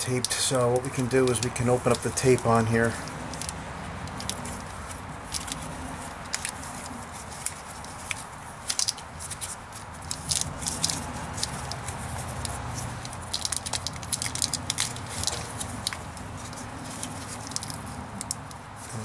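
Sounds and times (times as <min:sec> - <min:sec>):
electrical tape crackling: 0:00.0 - 0:19.0.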